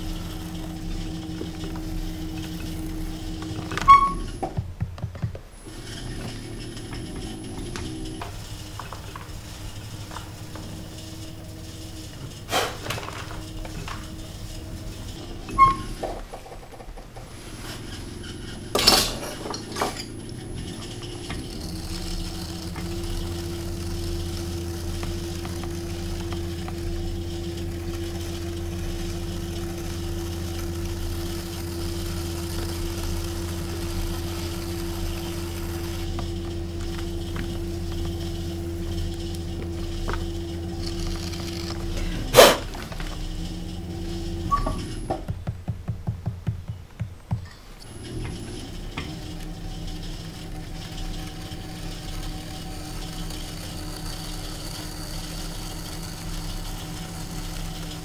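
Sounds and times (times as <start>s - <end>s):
potter's wheel humming: 0.0s - 58.0s.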